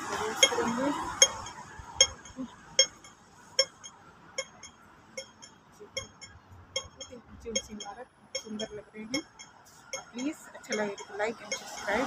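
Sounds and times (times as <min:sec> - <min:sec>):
crossing signal ticking: 0:00.0 - 0:12.0.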